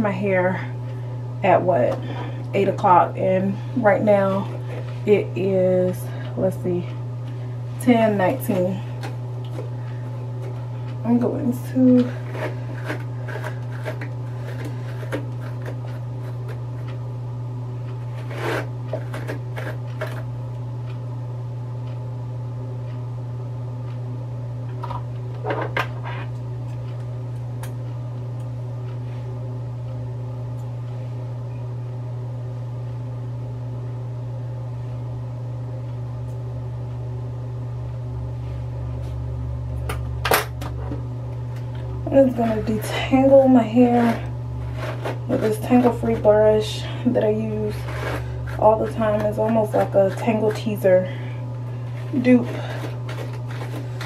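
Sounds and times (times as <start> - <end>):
exhaust fan humming: 0.0 - 54.0.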